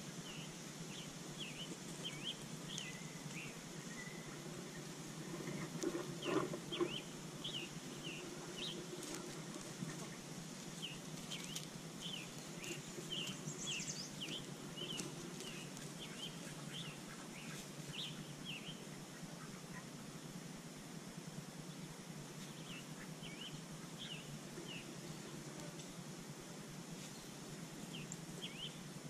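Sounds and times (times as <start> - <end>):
birds chirping: 0.0 - 29.0
steady outdoor background: 0.0 - 29.0.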